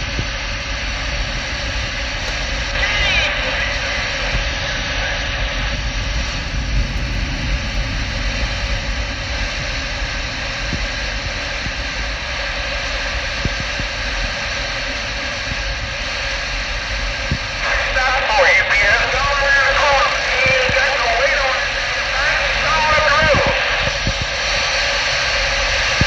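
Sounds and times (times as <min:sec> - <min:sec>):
low rumble: 0:00.0 - 0:26.0
radio static hiss: 0:00.0 - 0:26.0.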